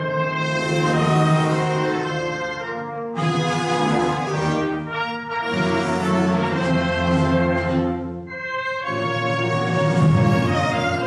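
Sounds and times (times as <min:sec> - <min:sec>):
orchestral music with held chords: 0:00.0 - 0:11.0.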